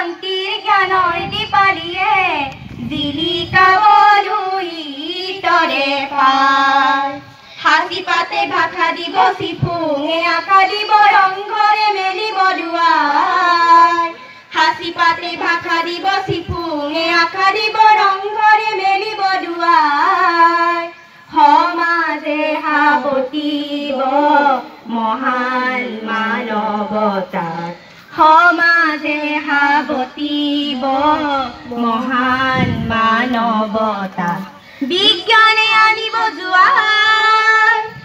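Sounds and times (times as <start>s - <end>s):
young voices singing together: 0.0s - 38.0s.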